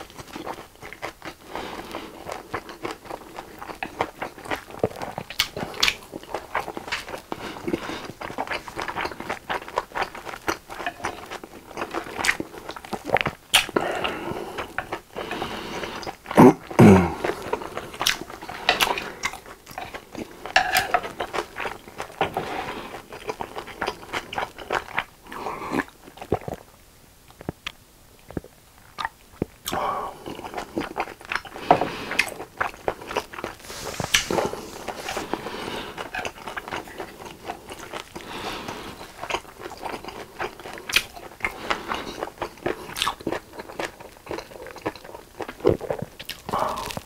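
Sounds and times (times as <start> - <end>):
chewing and slurping noodles: 0.0 - 26.7, 28.3 - 47.0.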